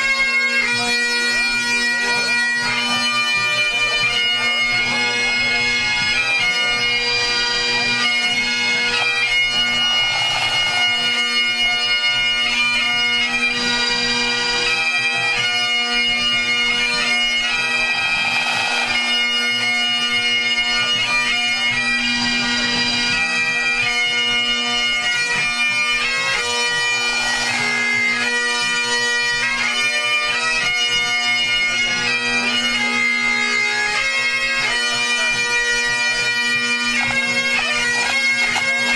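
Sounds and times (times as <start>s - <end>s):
bagpipe band playing: 0.0s - 38.9s.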